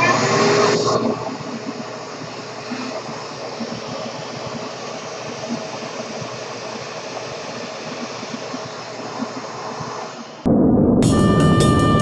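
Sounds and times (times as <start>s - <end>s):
vacuum cleaner running: 0.0s - 10.4s.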